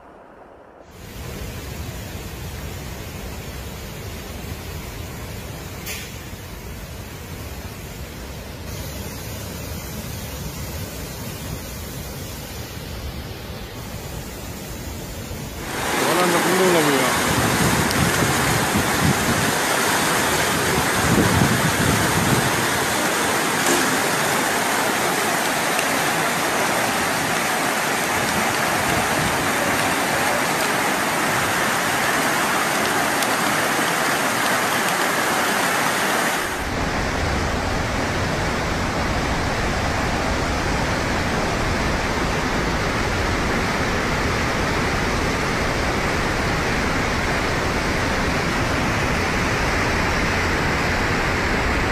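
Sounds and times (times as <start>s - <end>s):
floodwater rushing: 0.9s - 51.9s.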